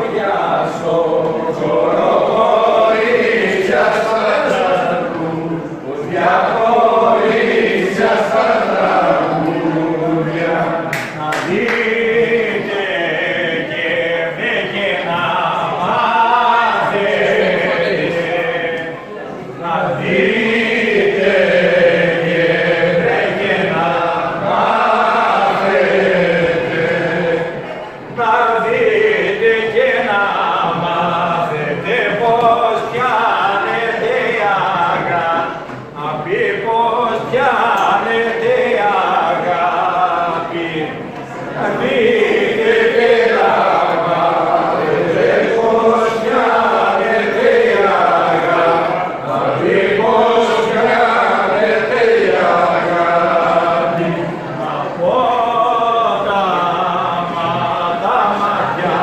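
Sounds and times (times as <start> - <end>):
men singing unaccompanied: 0.0 - 59.0.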